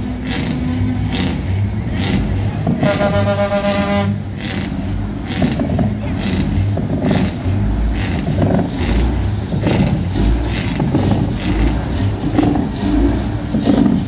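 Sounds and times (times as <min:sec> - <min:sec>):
diesel truck engines rumbling: 0:00.0 - 0:14.0.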